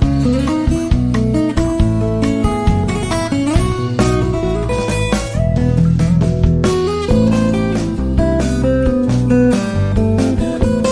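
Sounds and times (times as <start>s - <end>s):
guitar music: 0.0s - 10.9s.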